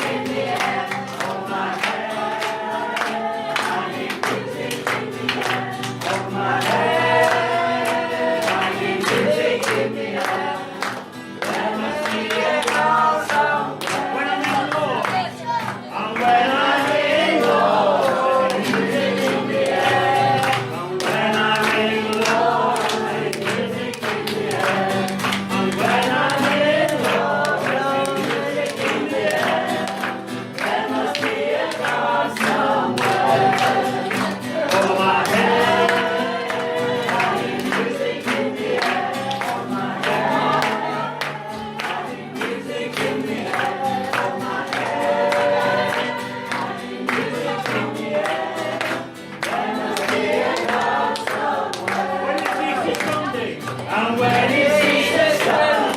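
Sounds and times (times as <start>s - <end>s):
group of voices singing: 0.0s - 55.9s.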